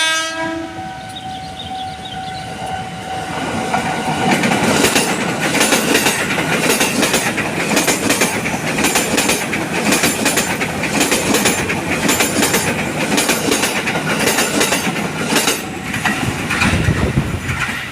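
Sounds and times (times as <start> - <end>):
train rumble: 0.0 - 17.9
train wheels clacking over rail joints: 3.6 - 17.9.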